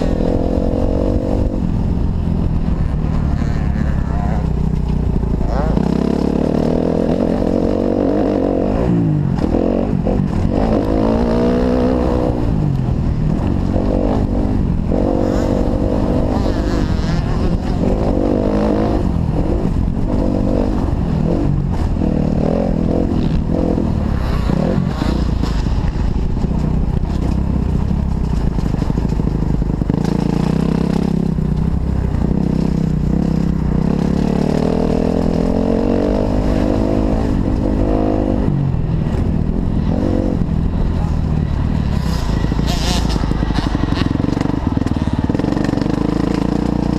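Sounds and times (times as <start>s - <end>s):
motocross bike engine revving: 0.0s - 1.7s, 2.5s - 26.2s, 28.8s - 46.9s.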